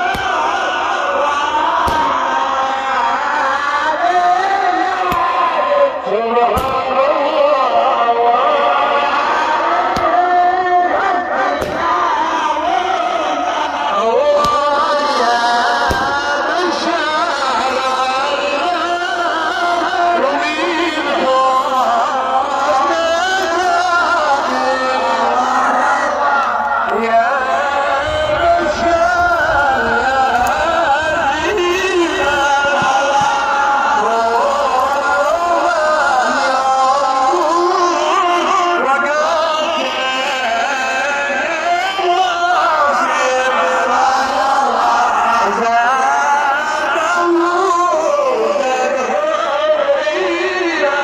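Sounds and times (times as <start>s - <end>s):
person singing ornamented chant: 0.0s - 51.0s.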